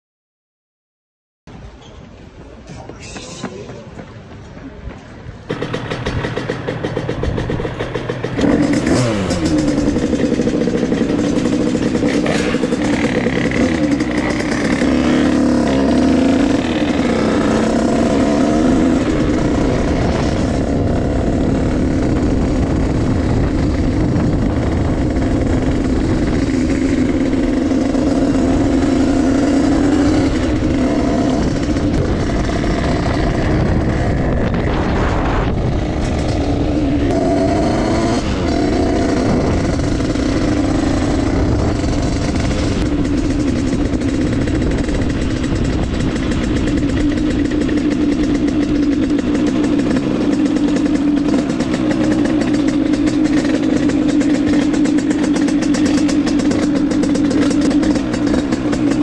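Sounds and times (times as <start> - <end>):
dirt bike engine revving: 5.5 - 59.0.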